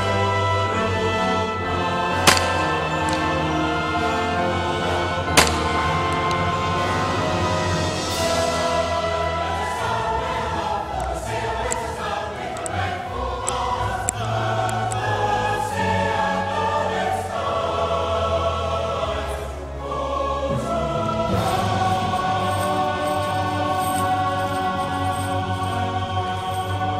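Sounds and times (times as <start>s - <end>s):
choir singing held chords: 0.0s - 26.9s.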